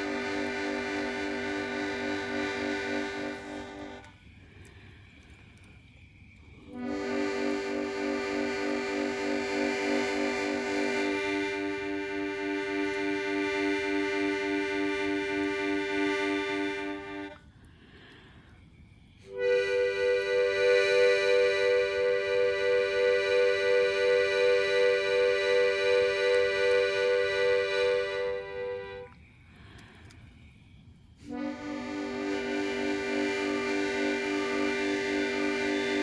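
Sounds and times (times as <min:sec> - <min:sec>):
free-reed instrument chords: 0:00.0 - 0:04.1, 0:06.7 - 0:17.4, 0:19.3 - 0:29.2, 0:31.3 - 0:36.0.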